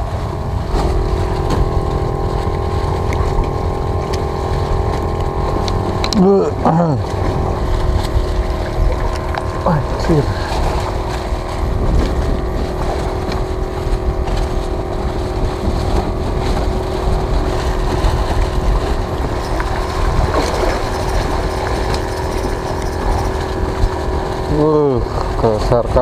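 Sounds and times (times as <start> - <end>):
boat engine running: 0.0 - 26.0
wind on microphone: 0.0 - 26.0.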